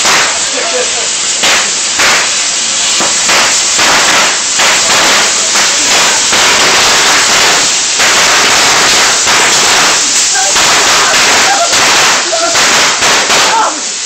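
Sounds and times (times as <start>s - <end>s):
fireworks crackling and hissing: 0.0s - 14.0s.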